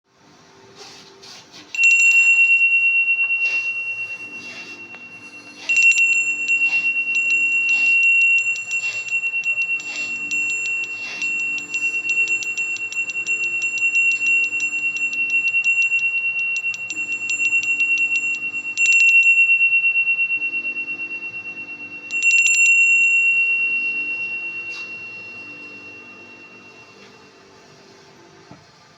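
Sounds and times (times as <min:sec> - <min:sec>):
hand bell ringing: 0:01.7 - 0:27.7
bell struck hard ringing out: 0:01.8 - 0:27.6.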